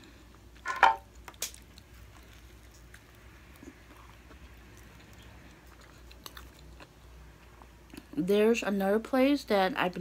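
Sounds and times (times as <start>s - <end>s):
person chewing: 0.1s - 8.2s.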